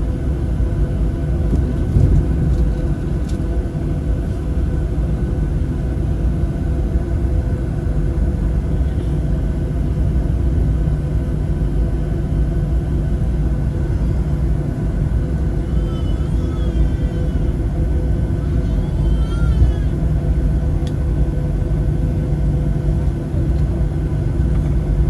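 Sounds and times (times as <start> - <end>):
faint constant hums: 0.0 - 25.0
jet engines idling low rumble: 0.0 - 25.0.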